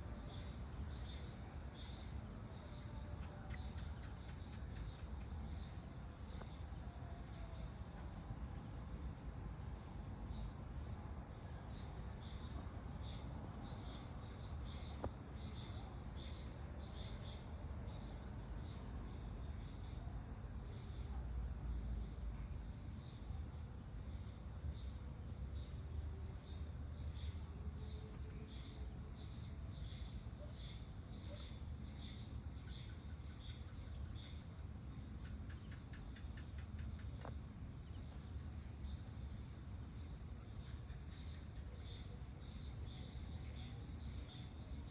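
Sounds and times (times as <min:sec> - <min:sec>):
crickets trilling: 0:00.0 - 0:44.9
pulsing insect chirp: 0:00.0 - 0:44.9.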